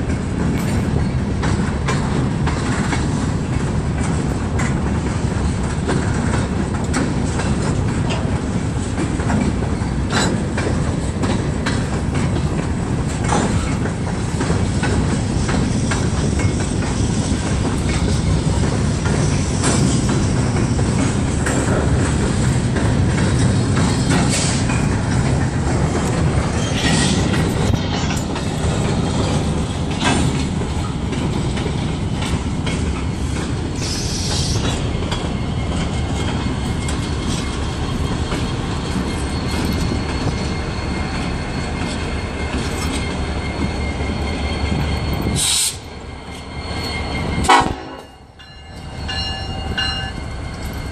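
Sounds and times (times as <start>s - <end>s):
diesel locomotive passing: 0.0s - 50.9s
train cars rumbling on rails: 0.0s - 50.9s.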